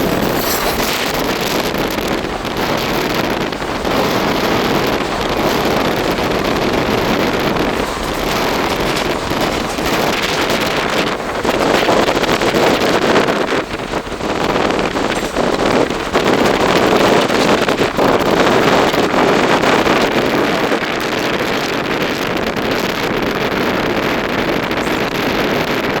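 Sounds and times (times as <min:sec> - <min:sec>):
train wheels rumbling on rails: 0:00.0 - 0:26.0
wind buffeting microphone: 0:00.0 - 0:26.0.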